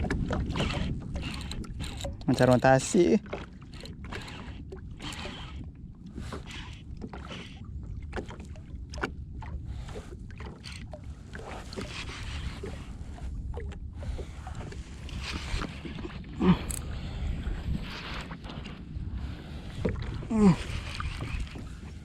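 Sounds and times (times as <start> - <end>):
water splashing against kayak hull: 0.0 - 22.0.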